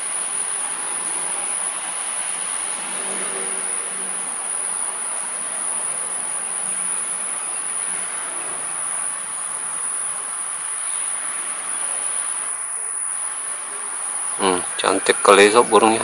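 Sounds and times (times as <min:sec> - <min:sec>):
even hiss: 0:00.0 - 0:16.0
insects droning: 0:00.0 - 0:16.0.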